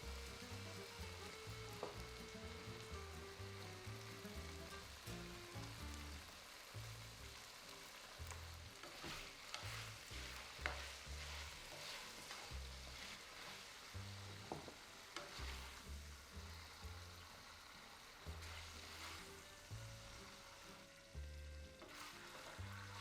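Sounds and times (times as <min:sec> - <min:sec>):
food sizzling in frying pan: 0:00.0 - 0:23.0.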